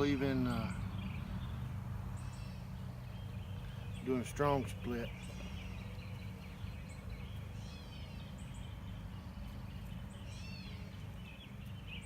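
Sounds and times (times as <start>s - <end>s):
bird chirping: 0.0s - 12.0s
honeybees humming: 0.0s - 12.0s.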